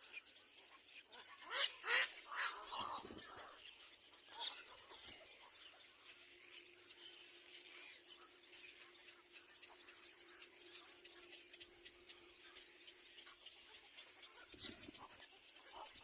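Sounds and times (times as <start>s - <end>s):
faint steady hum: 0.0s - 16.0s
faint ticks: 0.0s - 16.0s.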